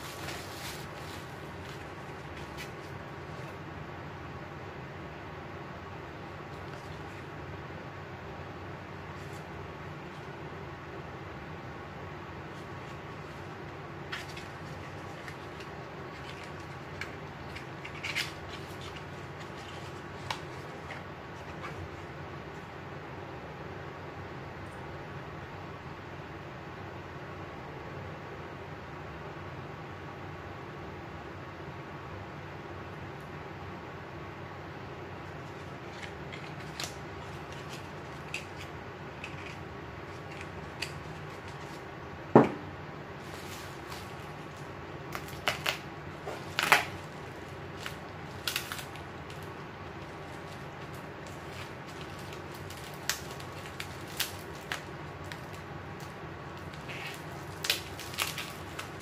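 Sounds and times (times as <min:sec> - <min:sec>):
electric fan: 0:00.0 - 0:59.0.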